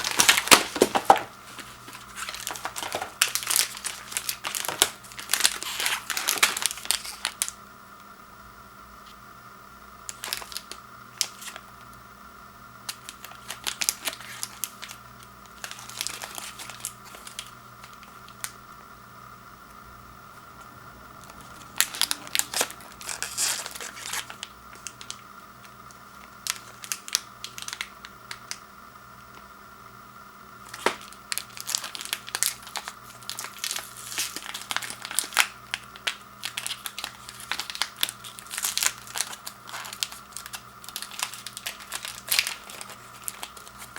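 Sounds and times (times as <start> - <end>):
packaging tearing: 0.0 - 7.6, 10.1 - 11.6, 12.9 - 18.6, 21.2 - 28.6, 30.6 - 43.9
plastic wrappers crinkling: 0.0 - 7.6, 10.1 - 11.6, 12.9 - 18.6, 20.4 - 28.6, 30.6 - 43.9.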